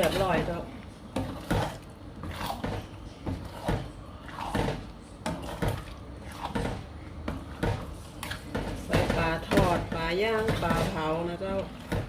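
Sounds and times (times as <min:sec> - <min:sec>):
spatula scraping a wok: 0:00.0 - 0:12.0.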